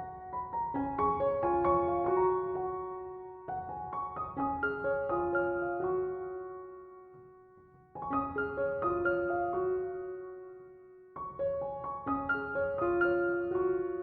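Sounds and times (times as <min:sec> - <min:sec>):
soft solo piano music: 0:00.0 - 0:14.0.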